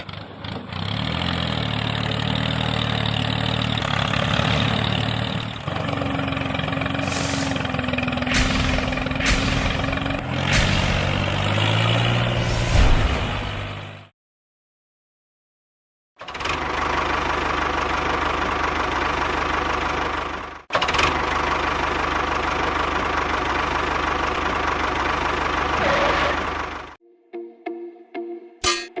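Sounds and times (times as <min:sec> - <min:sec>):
engine running: 0:00.0 - 0:14.1, 0:16.2 - 0:27.0.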